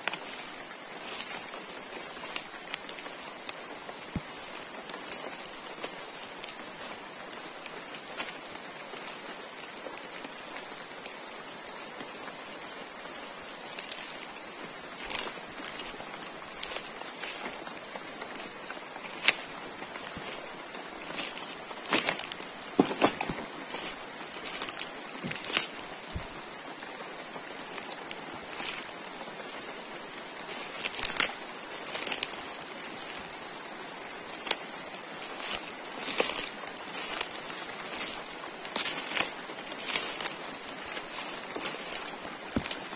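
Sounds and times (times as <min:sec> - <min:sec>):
footsteps crunching dry leaves: 0:00.0 - 0:42.9
rain falling: 0:00.0 - 0:42.9.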